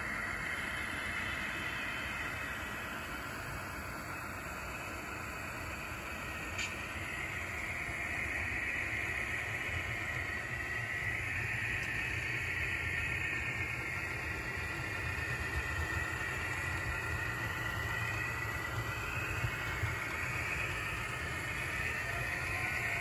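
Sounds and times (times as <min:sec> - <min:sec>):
high wavering whine: 0:00.0 - 0:23.0
model locomotive running: 0:00.0 - 0:23.0.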